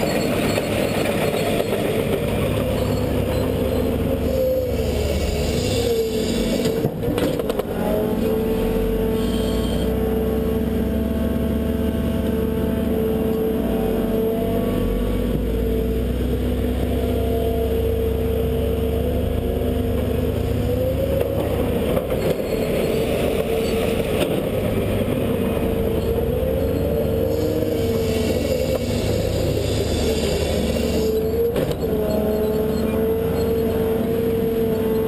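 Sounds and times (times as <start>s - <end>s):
excavator diesel engine and hydraulics: 0.0s - 35.0s.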